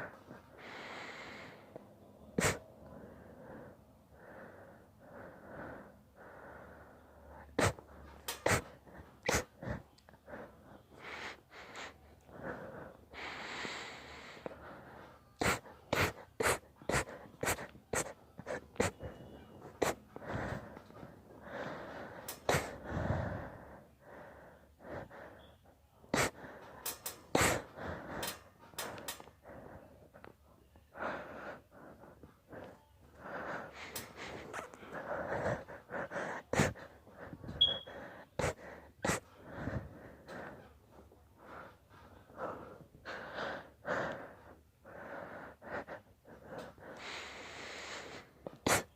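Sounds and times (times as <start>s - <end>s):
wheezy gasping breaths: 0.0s - 48.9s.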